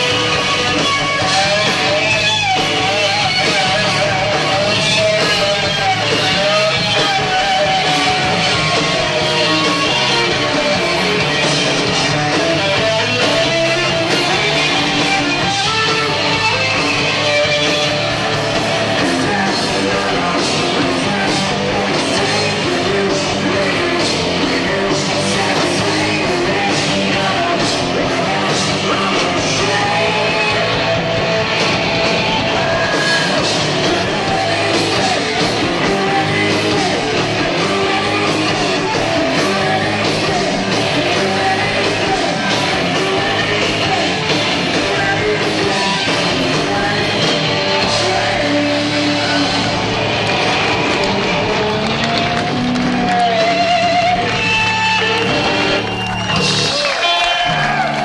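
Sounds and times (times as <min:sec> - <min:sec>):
person singing: 0:00.0 - 0:18.0, 0:18.8 - 0:31.0, 0:32.3 - 0:50.0
bass guitar: 0:00.0 - 0:58.0
distorted electric guitar: 0:00.0 - 0:58.0
drums: 0:00.0 - 0:58.0.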